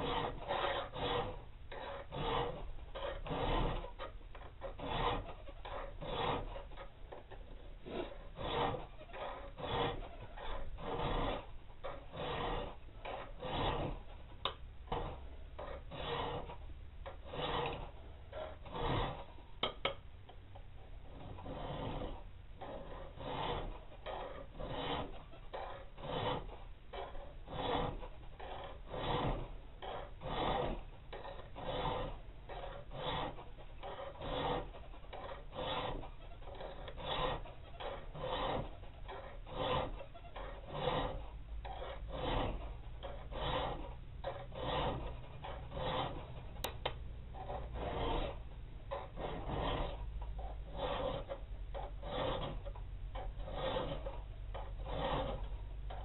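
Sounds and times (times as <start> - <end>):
file rasping on steel: 0.0 - 56.0.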